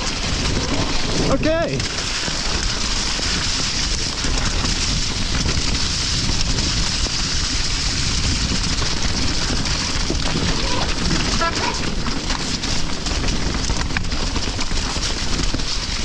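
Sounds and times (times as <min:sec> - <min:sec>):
rain: 0:00.0 - 0:16.0
wind buffeting microphone: 0:00.0 - 0:16.0.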